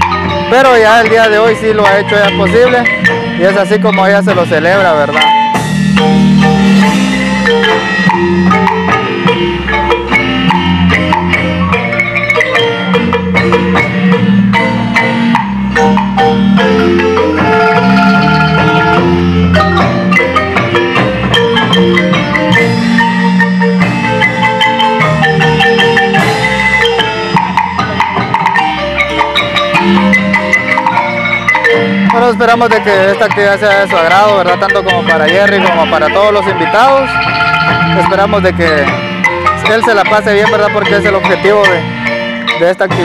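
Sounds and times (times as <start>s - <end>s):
marimba band playing dance music: 0.0s - 43.0s
plodding bass line: 0.0s - 43.0s.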